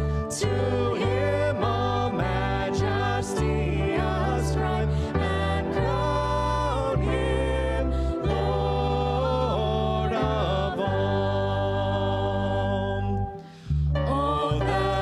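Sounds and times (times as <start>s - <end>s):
low held accompaniment notes: 0.0s - 15.0s
voices singing a hymn: 0.0s - 15.0s.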